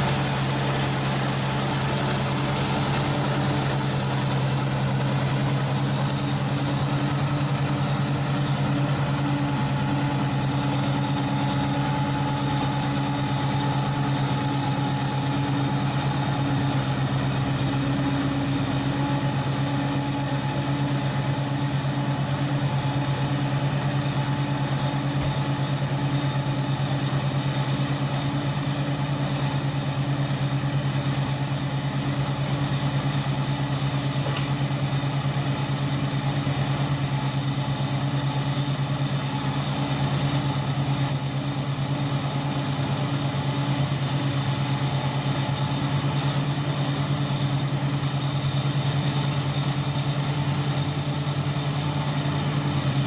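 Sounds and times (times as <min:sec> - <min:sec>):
harvester engine humming: 0:00.0 - 0:53.0.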